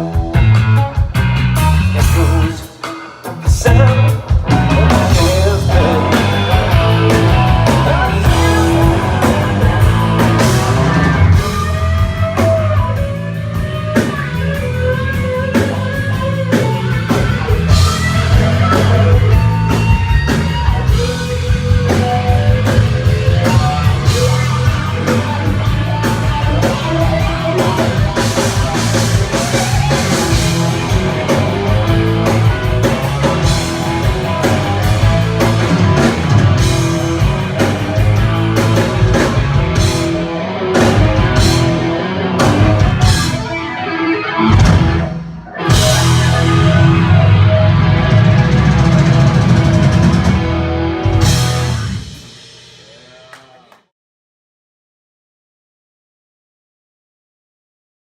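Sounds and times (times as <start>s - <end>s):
electric guitar: 0.0s - 52.9s
drum kit beat: 0.0s - 53.7s
live rock band playing: 0.0s - 53.7s.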